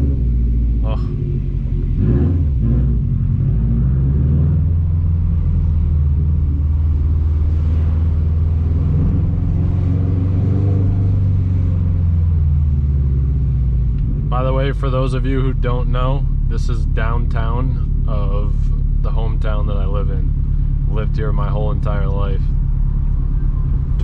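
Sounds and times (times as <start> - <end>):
car exhaust rumble: 0.0 - 24.0.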